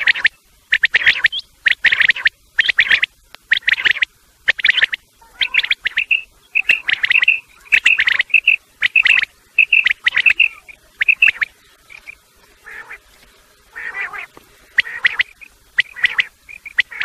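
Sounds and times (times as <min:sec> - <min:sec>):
quail calling: 0:00.0 - 0:13.1, 0:13.7 - 0:17.0.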